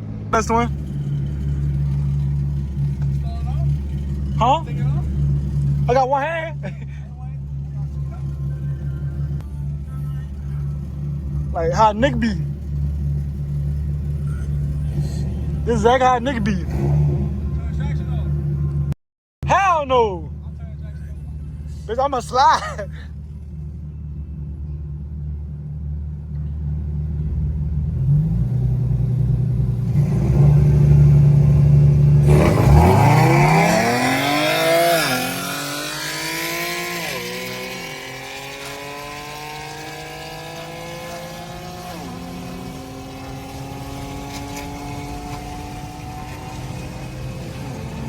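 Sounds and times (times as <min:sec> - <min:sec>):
car exhaust accelerating: 0:00.0 - 0:19.0, 0:20.2 - 0:48.0.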